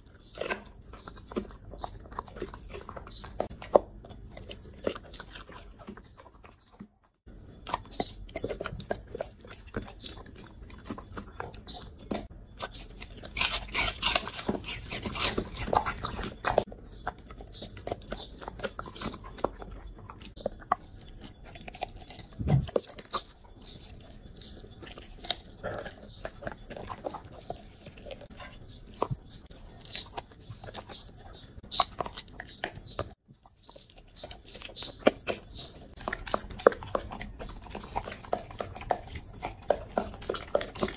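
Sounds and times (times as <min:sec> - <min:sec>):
dog chewing and crunching bone: 0:00.0 - 0:40.9.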